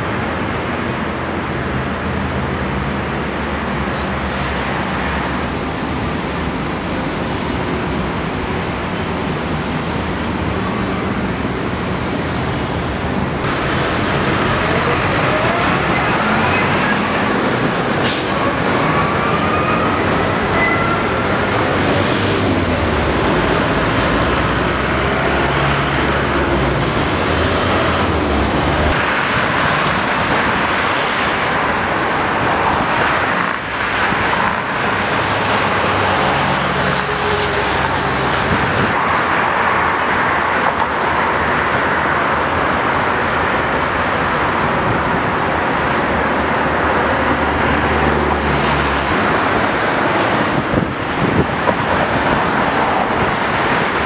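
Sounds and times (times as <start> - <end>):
low engine hum heavy vehicles: 0.0 - 54.0
road traffic passing: 0.0 - 54.0.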